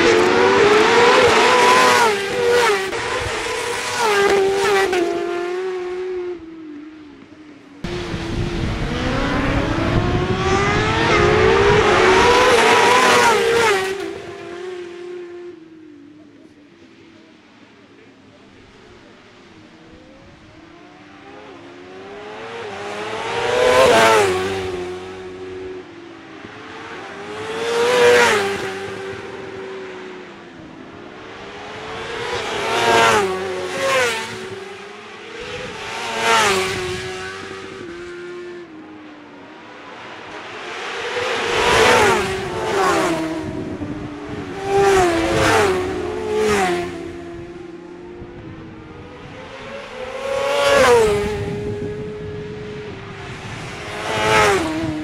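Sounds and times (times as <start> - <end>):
racing motorbikes passing: 0.0 - 55.0.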